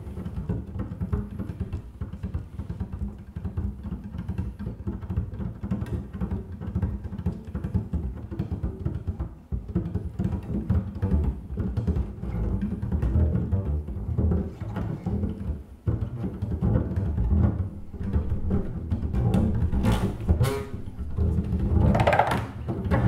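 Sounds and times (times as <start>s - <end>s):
double bass improvisation: 0.0s - 23.0s.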